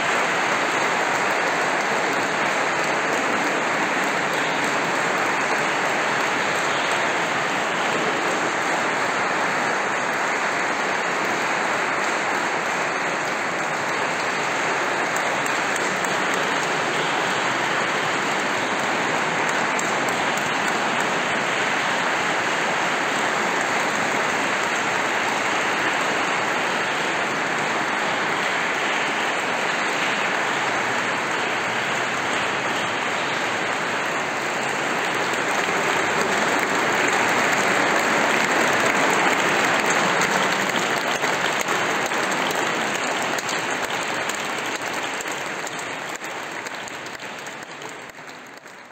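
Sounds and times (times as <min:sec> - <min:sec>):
audience applauding: 0:00.0 - 0:48.9.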